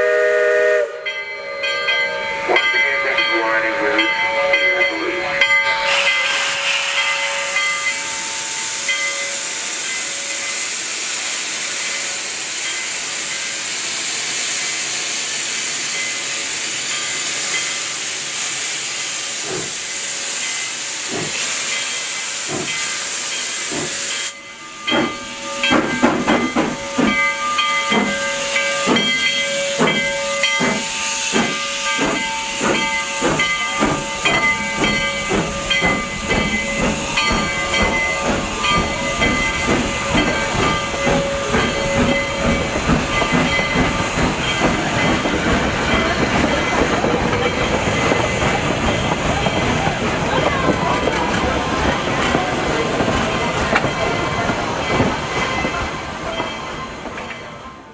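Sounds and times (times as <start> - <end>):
steam locomotive hissing: 0.0 - 57.9.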